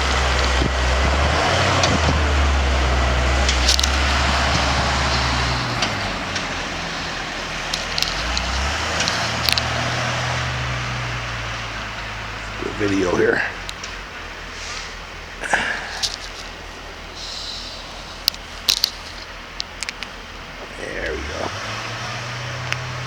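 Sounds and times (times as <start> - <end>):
diesel engine working under load: 0.0 - 23.0.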